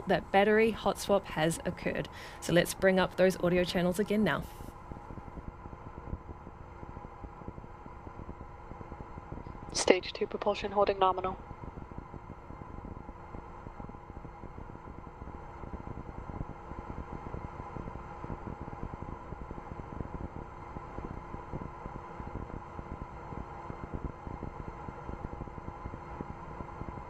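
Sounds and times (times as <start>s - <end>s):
faint steady tones: 0.0s - 27.0s
steady hiss and hum: 0.0s - 27.0s.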